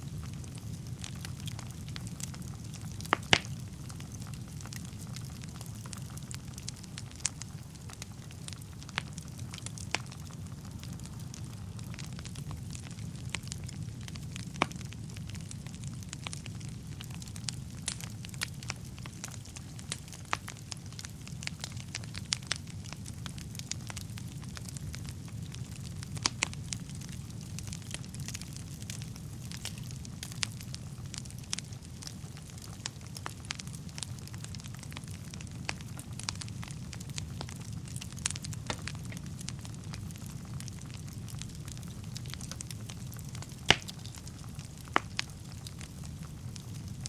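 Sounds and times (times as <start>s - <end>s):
fire crackling and popping: 0.0s - 47.0s
low rumble of flames: 0.0s - 47.0s.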